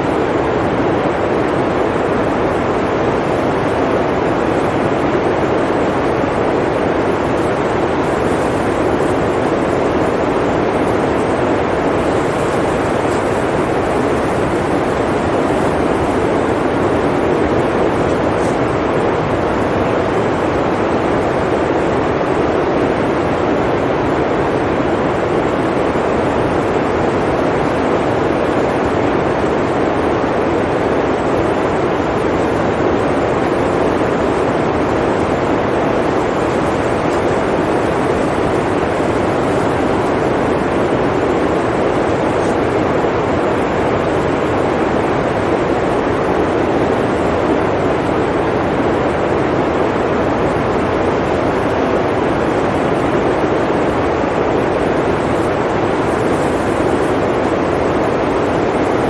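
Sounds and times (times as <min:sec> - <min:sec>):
blizzard wind blowing: 0:00.0 - 0:59.0.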